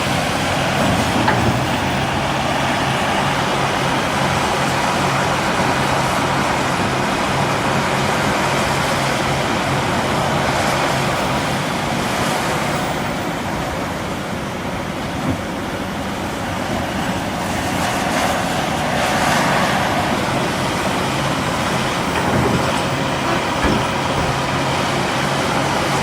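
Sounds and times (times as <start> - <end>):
heavy diesel machinery running: 0.0 - 26.0.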